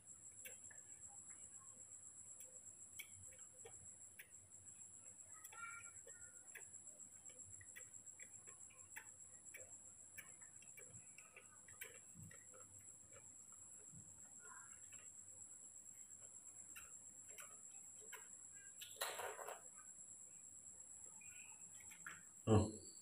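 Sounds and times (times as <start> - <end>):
faint high-pitched buzz: 0.0 - 23.0.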